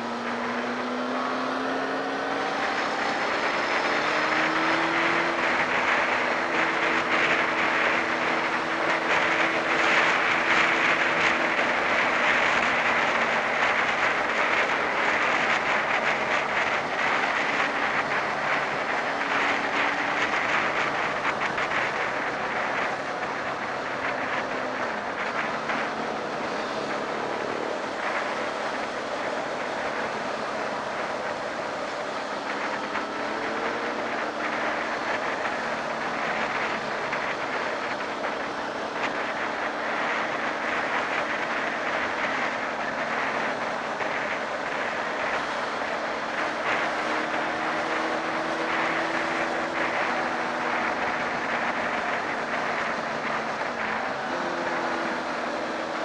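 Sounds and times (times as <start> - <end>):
motorcycle engine running: 0.0 - 56.0
wind rushing past helmet: 0.0 - 56.0.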